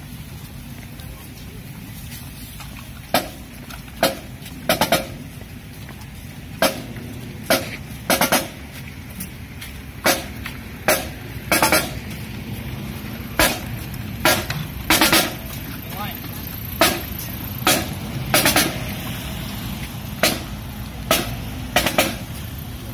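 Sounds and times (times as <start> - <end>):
snare drums marching cadence: 2.6 - 22.9.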